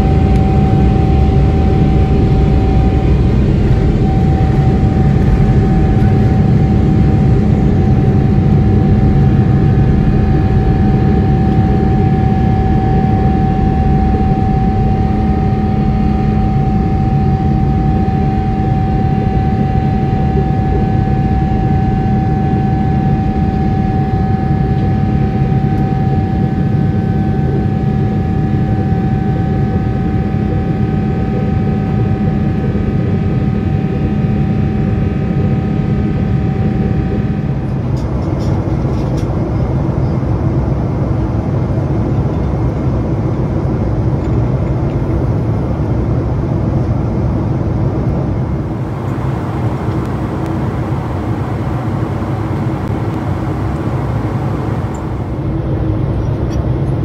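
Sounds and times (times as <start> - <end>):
jet engine and airflow rumble: 0.0 - 57.0
steady whine: 0.0 - 57.0.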